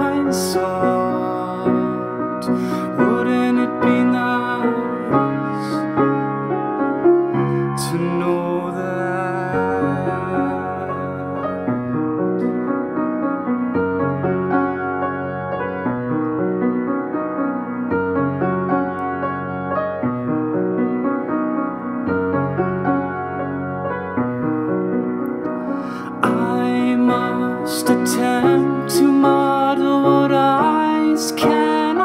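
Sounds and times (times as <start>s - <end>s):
upright piano playing: 0.0s - 32.0s.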